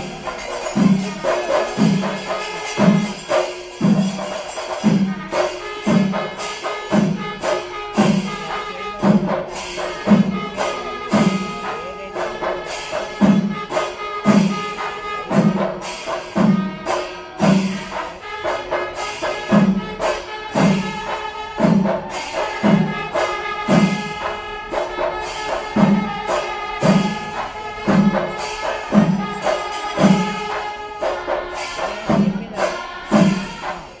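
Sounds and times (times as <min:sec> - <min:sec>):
fast jingling cymbals: 0:00.0 - 0:34.0
held wind instrument notes: 0:00.0 - 0:34.0.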